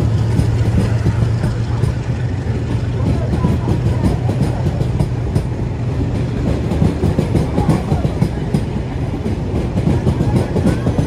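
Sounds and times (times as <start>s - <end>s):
train wheels rumbling on rails: 0.0s - 11.0s
wheels clacking on rail joints: 0.0s - 11.0s.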